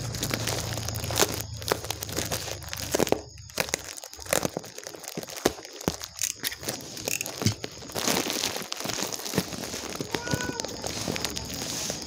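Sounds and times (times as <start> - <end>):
knife slitting plastic bag: 0.0 - 12.0
plastic crinkling and tearing: 0.0 - 12.0.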